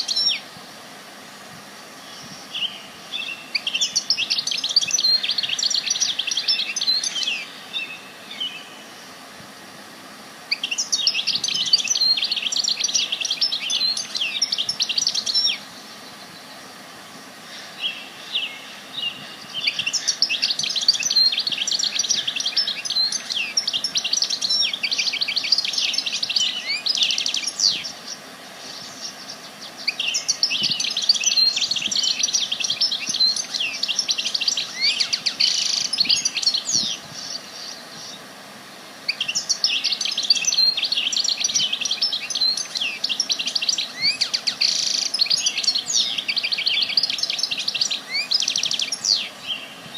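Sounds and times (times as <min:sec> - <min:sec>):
faint outdoor background: 0:00.0 - 0:49.9
songbird chirps and trills: 0:00.0 - 0:49.9.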